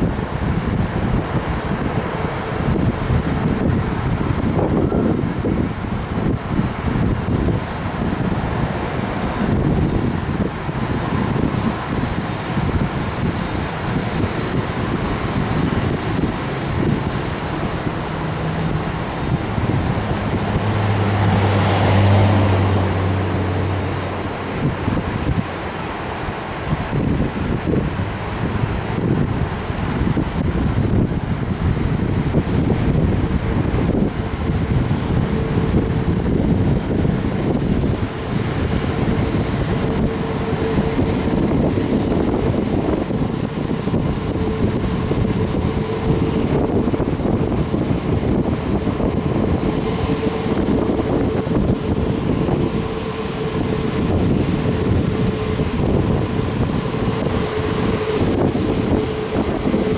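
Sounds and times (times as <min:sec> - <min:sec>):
low engine hum: 0:00.0 - 0:59.9
thin steady whine: 0:00.0 - 0:59.9
wind buffeting microphone: 0:00.0 - 0:59.9.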